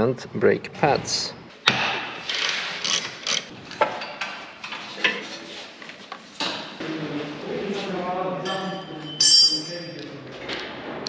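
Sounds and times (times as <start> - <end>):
workshop noise: 0.0 - 11.0.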